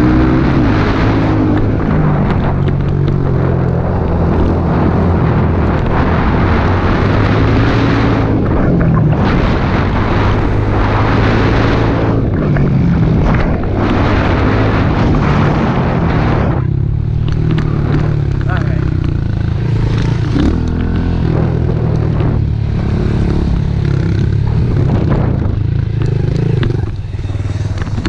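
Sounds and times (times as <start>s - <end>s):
motorbike engine revving: 0.0s - 28.0s
wind noise on microphone: 0.0s - 28.0s.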